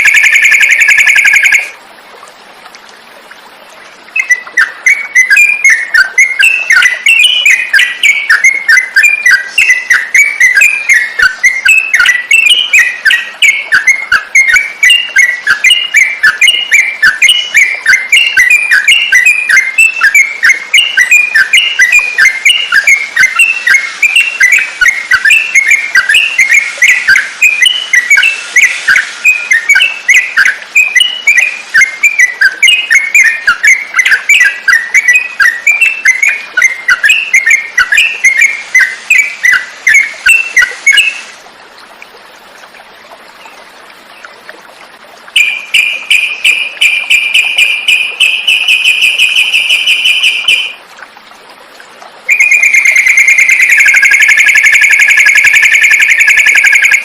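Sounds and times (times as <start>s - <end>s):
bird trill: 0.0s - 1.7s, 4.2s - 41.3s, 45.4s - 50.8s, 52.3s - 57.0s
bird chirping song: 0.0s - 1.8s, 4.1s - 41.4s, 45.4s - 50.8s, 52.3s - 57.0s.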